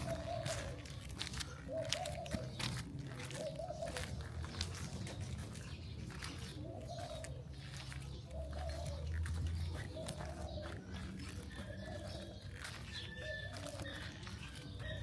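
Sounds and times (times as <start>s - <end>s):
low city rumble: 0.0s - 15.0s
pigeons cooing: 0.0s - 15.0s.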